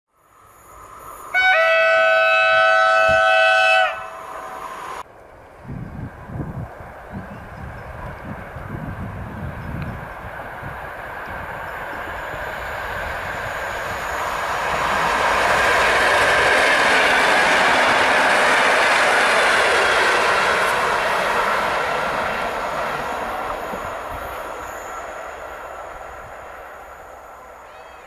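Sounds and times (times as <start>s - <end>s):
passenger train passing: 0.2s - 28.0s.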